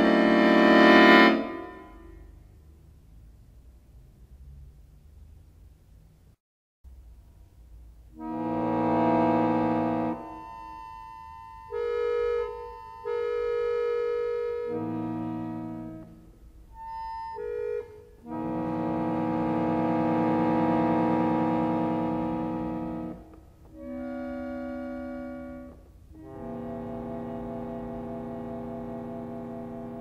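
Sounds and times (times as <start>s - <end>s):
accordion playing chords: 0.0s - 2.2s, 8.2s - 30.0s.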